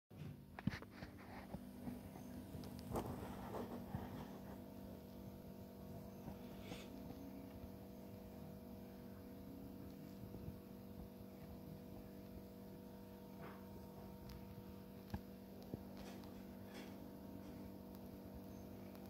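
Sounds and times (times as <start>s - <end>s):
faint electrical hum: 0.2s - 19.0s.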